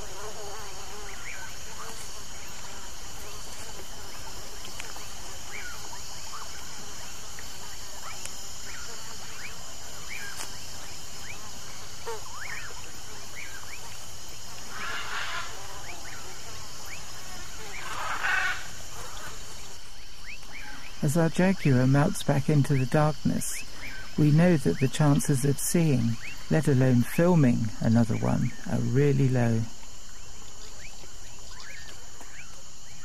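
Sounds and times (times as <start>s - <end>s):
high-pitched insect drone: 0.0s - 33.0s
insects chirping: 0.0s - 33.0s.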